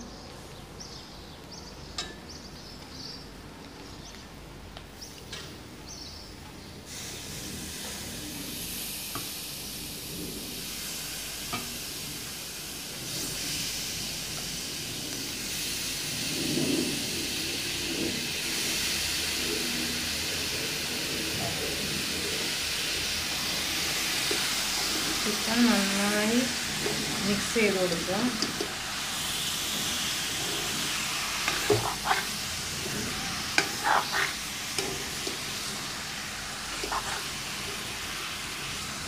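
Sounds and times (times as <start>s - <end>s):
chicken sizzling in hot oil: 6.8s - 39.0s.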